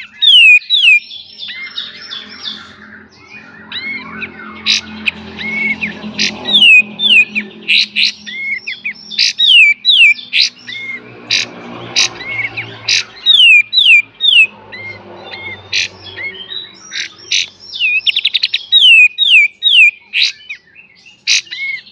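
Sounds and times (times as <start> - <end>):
songbird whistled notes: 0.0 - 10.9, 13.2 - 21.9.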